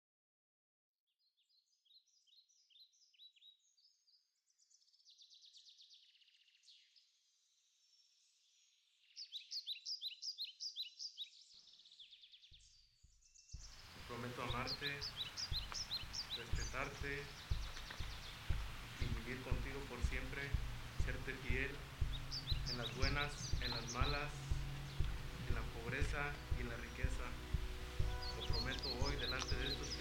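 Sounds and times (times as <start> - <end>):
songbirds chirping and trilling: 1.2 - 30.0.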